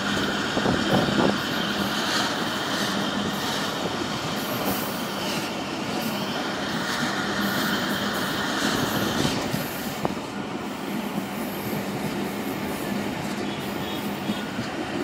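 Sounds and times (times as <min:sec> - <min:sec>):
sharp clicks of train wheels: 0:00.0 - 0:15.0
train wheels rumbling on rails: 0:00.0 - 0:15.0.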